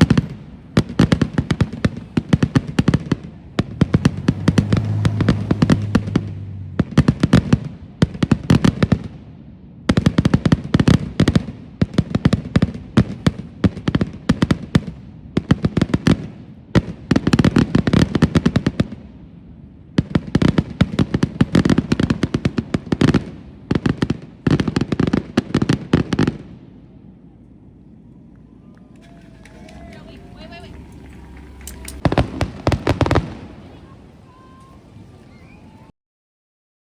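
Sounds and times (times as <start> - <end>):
fireworks crackling: 0.0 - 9.3, 9.9 - 35.9.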